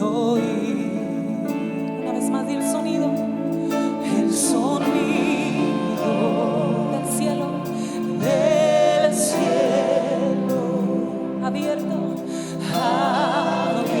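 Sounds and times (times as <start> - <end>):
person singing with vibrato: 0.0 - 14.0
sustained band chords: 0.0 - 14.0.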